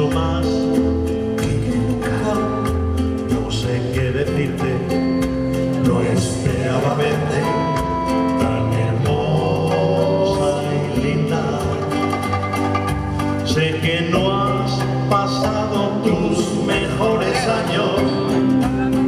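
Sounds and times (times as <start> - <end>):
acoustic guitars: 0.0 - 19.0
light percussion: 0.0 - 19.0
upright double bass: 0.0 - 19.0.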